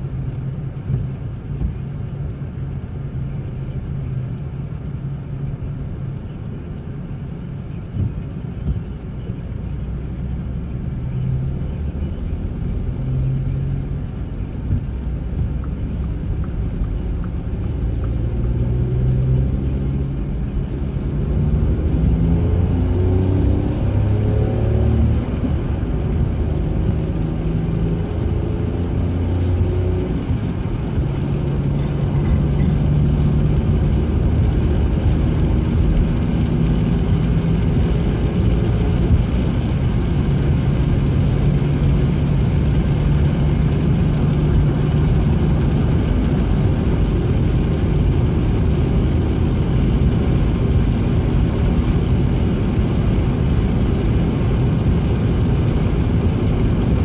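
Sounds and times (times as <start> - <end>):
car engine low hum: 0.0 - 57.0
tyre and road noise: 0.0 - 57.0.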